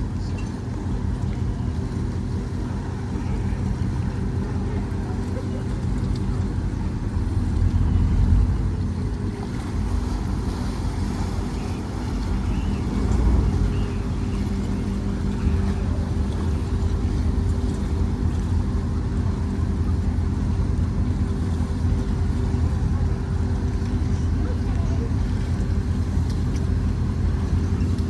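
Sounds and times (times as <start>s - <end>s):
faint steady hum: 0.0s - 28.0s
yacht engines low rumble: 0.0s - 28.0s.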